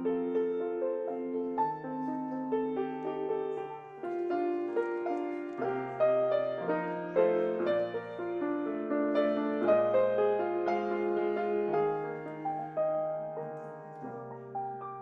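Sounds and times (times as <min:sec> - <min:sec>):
slow gentle grand piano: 0:00.0 - 0:15.0.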